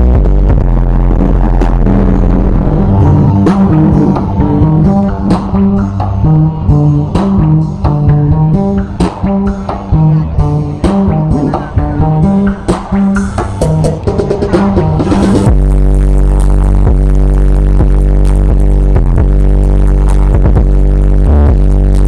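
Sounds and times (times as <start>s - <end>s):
bass-heavy music over speakers: 0.0s - 22.0s
plucked bass line: 0.0s - 22.0s.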